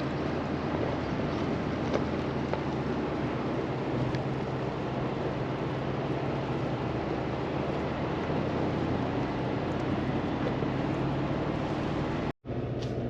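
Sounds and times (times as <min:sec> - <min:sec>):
truck engine hum: 0:00.0 - 0:13.0
tyre and road noise: 0:00.0 - 0:13.0.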